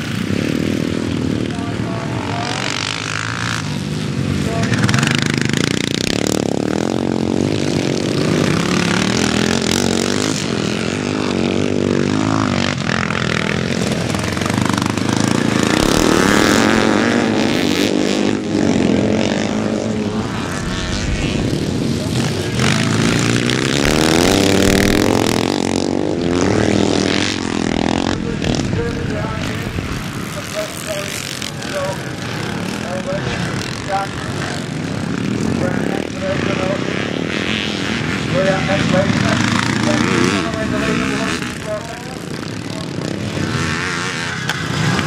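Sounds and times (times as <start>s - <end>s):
motocross bikes revving: 0.0s - 45.0s.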